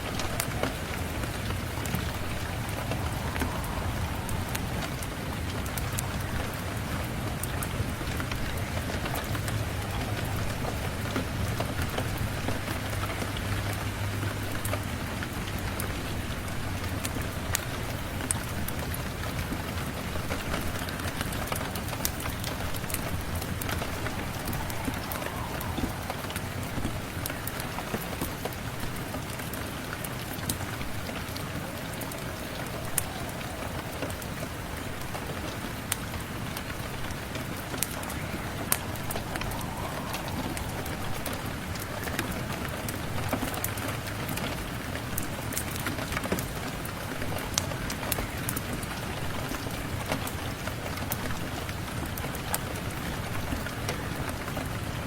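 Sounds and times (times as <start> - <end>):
log fire crackling: 0.0 - 55.0
rain falling: 0.0 - 55.0.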